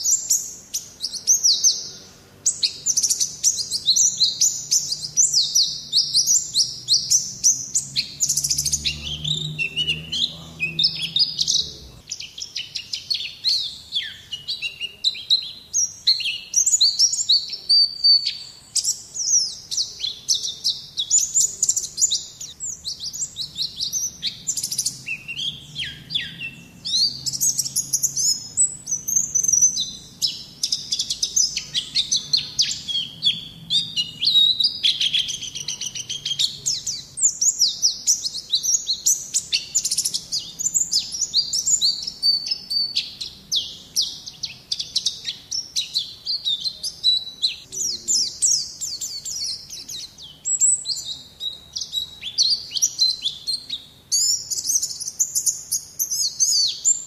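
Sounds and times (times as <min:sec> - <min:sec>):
bird chirping and trilling: 0:00.0 - 0:57.0.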